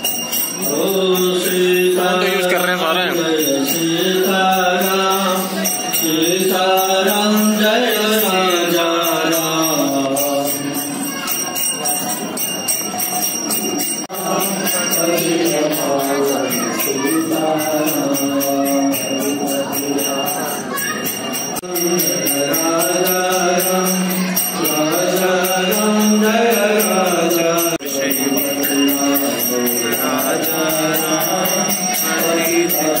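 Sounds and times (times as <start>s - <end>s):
devotional chanting and singing: 0.0s - 33.0s
small bells jingling: 0.0s - 33.0s.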